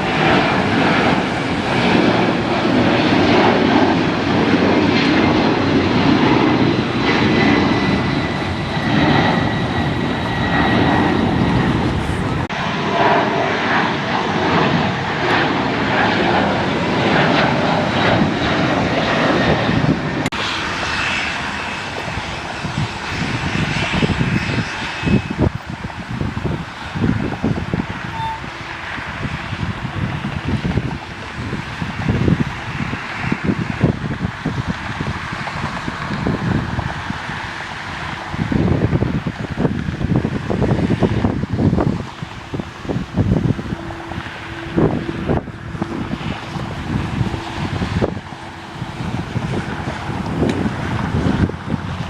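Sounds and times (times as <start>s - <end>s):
jet airliner passing: 0.0s - 52.0s
wind on microphone: 0.0s - 52.0s.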